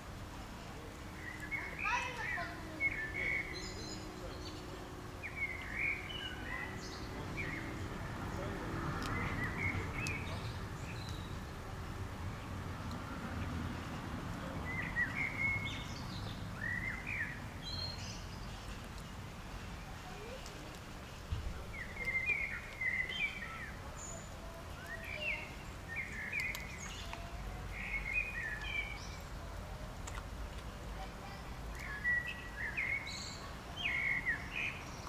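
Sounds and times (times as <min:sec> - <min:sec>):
small birds chirping: 0:00.4 - 0:35.0.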